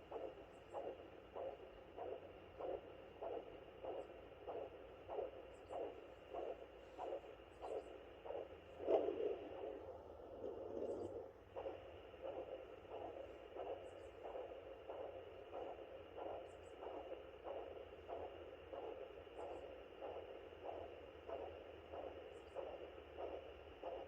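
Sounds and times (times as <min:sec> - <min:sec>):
whooshing heartbeat pulse: 0:00.0 - 0:24.0.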